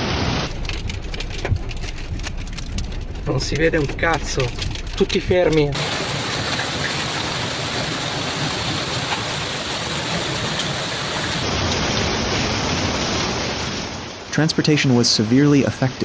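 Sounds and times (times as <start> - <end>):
heavy hail and rain: 0.0 - 16.0
hail impact ticks: 0.3 - 13.7.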